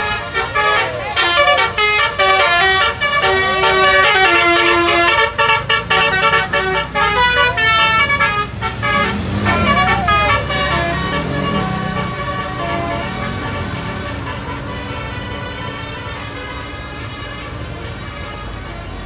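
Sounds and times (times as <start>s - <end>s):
low bus engine rumble: 0.0s - 19.0s
musical air horns: 0.0s - 19.0s.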